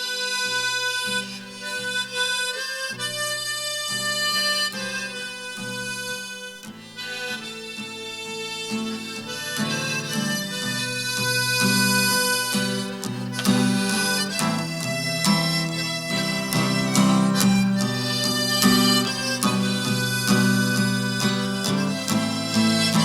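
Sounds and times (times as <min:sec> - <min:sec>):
harmonica melody: 0:00.0 - 0:23.0.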